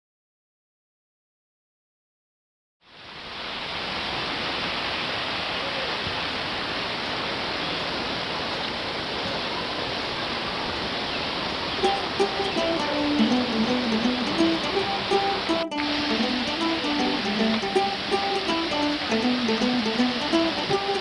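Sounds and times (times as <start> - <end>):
falling water rushing: 2.9 - 21.0.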